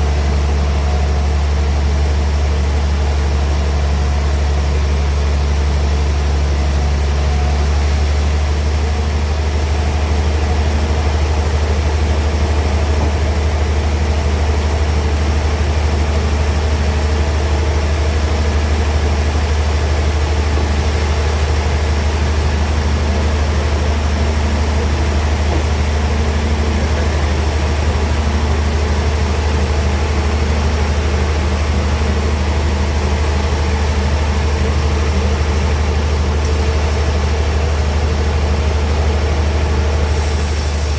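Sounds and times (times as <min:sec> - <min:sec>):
band sawmill running: 0:00.0 - 0:40.9.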